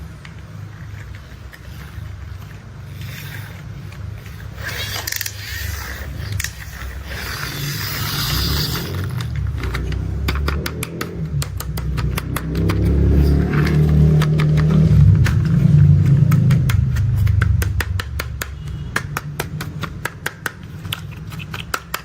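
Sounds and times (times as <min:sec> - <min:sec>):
sharp mechanical clicks: 0:00.0 - 0:22.0.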